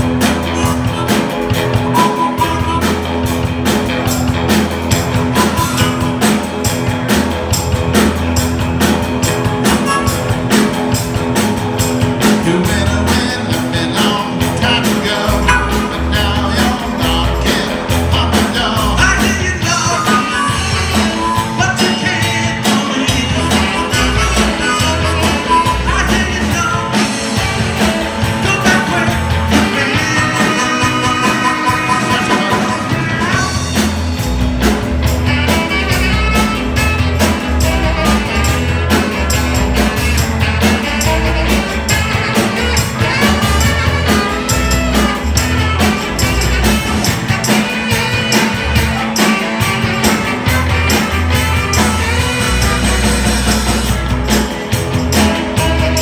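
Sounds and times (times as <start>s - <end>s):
live rock band playing: 0.0s - 56.0s
harmonica melody: 0.6s - 4.3s, 4.9s - 6.5s, 8.9s - 11.8s, 14.6s - 34.0s, 35.1s - 56.0s.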